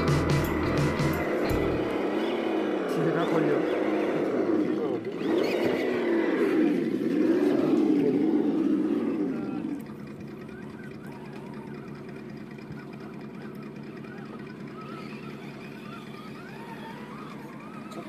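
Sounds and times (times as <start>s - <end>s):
electric motor and gearbox whining: 0.0s - 18.0s.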